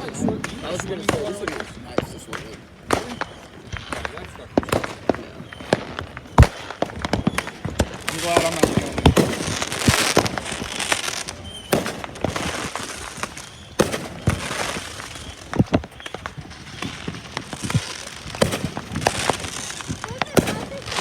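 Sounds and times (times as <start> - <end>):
fireworks bangs and pops: 0.0 - 21.0
fireworks crackling: 0.0 - 21.0.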